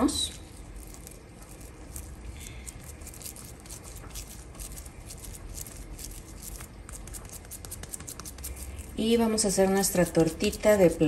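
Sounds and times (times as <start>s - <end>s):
hands squishing sticky dough: 0.0s - 11.0s.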